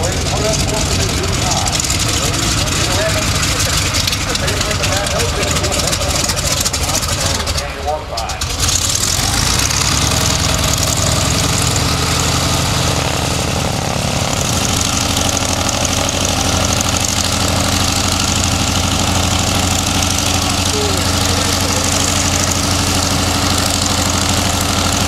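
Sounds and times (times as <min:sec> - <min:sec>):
aircraft radial engine idling: 0:00.0 - 0:25.0.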